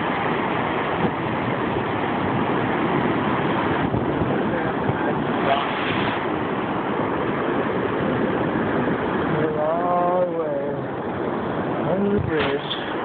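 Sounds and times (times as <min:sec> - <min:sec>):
waterfall rushing over boulders: 0:00.0 - 0:13.0.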